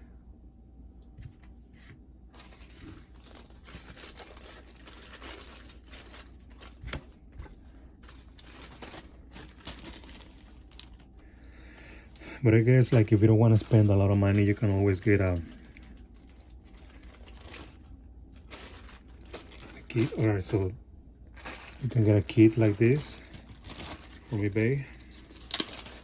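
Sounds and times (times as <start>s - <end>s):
packaging crinkling: 2.3s - 11.2s, 11.8s - 20.7s, 21.3s - 26.0s.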